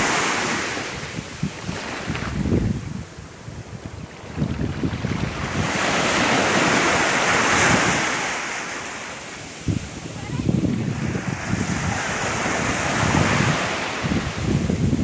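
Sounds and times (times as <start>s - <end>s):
wind buffeting microphone: 0.0s - 8.3s, 9.4s - 15.0s
sea waves washing ashore: 0.0s - 15.0s.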